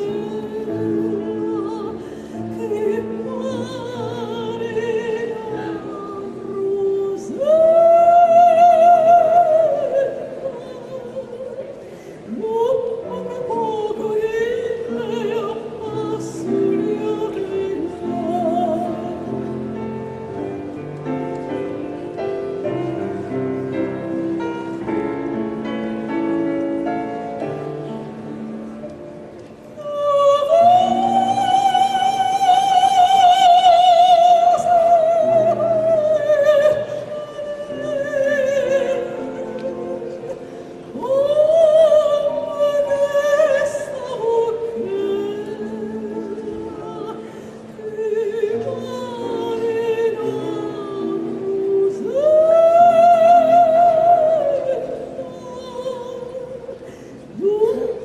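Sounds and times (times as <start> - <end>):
woman singing with vibrato: 0.0 - 20.8, 21.4 - 58.0
grand piano chords: 0.0 - 58.0.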